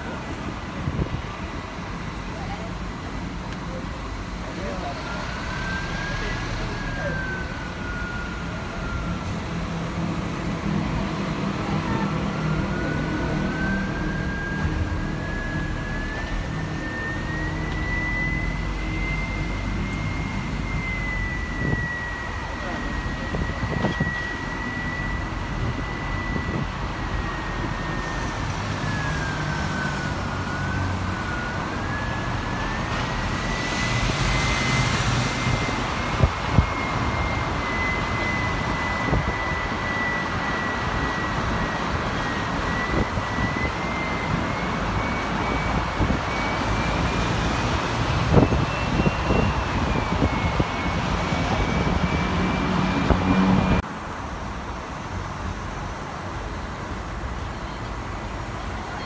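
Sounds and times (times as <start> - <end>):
bus engine and road noise: 0.0 - 59.0
thin whine: 0.0 - 59.0.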